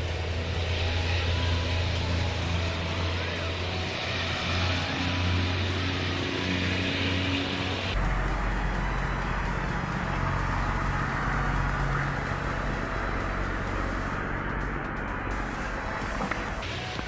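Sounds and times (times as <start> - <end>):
low engine-like hum: 0.0 - 17.0
rushing noise: 0.0 - 17.0.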